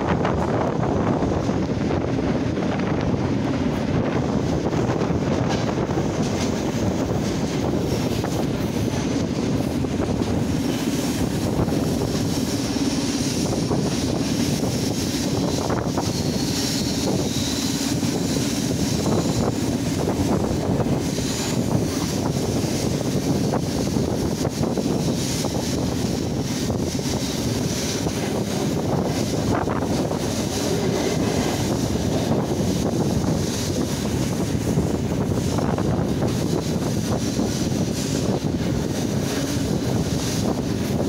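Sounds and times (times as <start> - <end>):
train rumbling: 0.0 - 41.0
wind blowing across microphone: 0.0 - 41.0.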